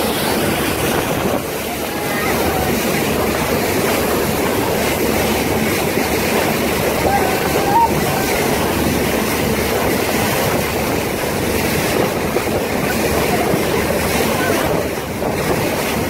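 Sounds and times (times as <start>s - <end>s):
motorboat engine running: 0.0s - 16.0s
water rushing past hull: 0.0s - 16.0s
wind buffeting microphone: 0.0s - 16.0s.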